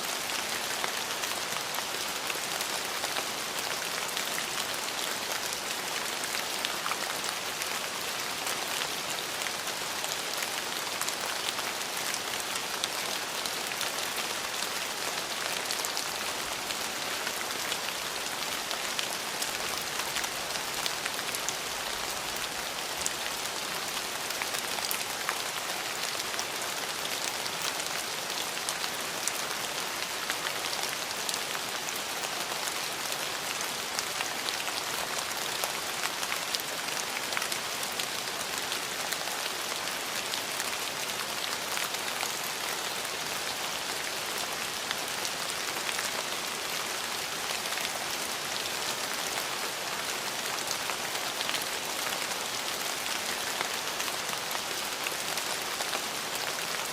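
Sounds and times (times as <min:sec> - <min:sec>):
rain drops ticking on hard surface: 0:00.1 - 0:56.9.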